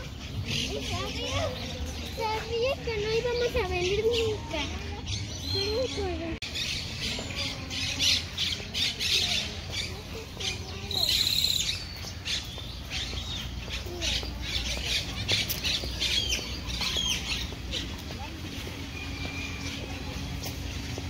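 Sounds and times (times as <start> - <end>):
birds squawking and chirping: 0.0 - 21.0.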